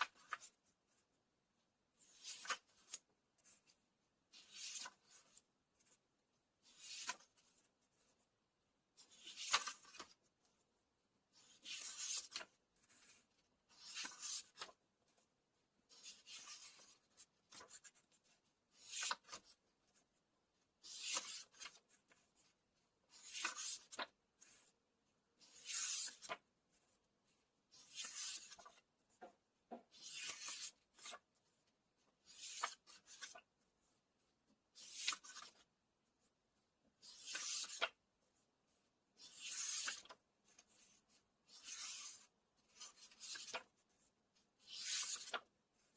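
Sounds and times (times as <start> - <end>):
book pages turning: 0.0 - 1.0, 2.0 - 3.7, 4.3 - 6.0, 6.6 - 8.2, 9.0 - 10.6, 11.3 - 15.3, 15.9 - 20.1, 20.8 - 24.8, 25.4 - 31.5, 32.1 - 35.7, 37.0 - 38.1, 38.7 - 44.0, 44.6 - 45.9.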